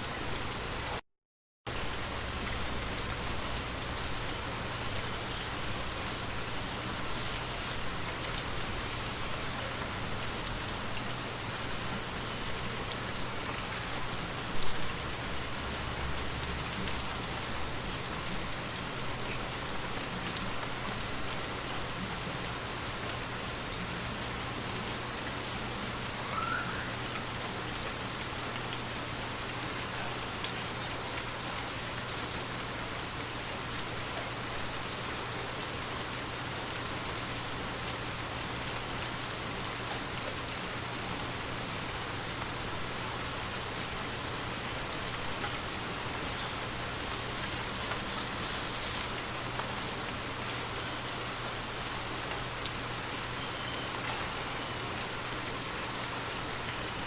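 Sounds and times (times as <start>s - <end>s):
steady rain falling: 0.0s - 1.0s, 1.7s - 57.0s.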